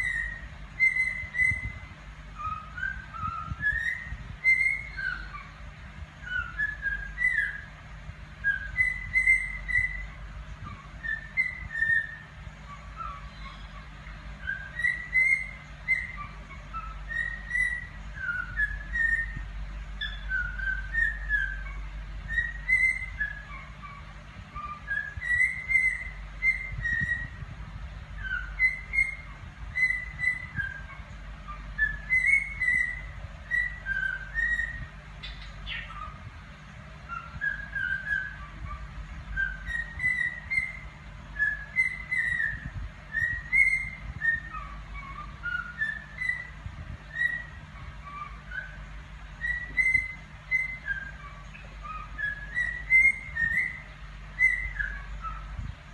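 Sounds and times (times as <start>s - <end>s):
cockatiel whistling a tune: 0.0s - 5.5s, 6.2s - 7.7s, 8.4s - 13.6s, 14.4s - 19.4s, 20.0s - 27.5s, 28.2s - 36.2s, 37.1s - 48.8s, 49.4s - 55.7s.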